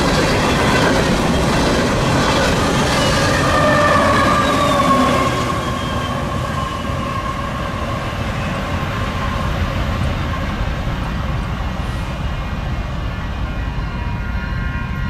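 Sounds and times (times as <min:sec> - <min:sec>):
freight train engine and wheels rumbling: 0:00.0 - 0:15.0
locomotive high whine: 0:00.0 - 0:15.0.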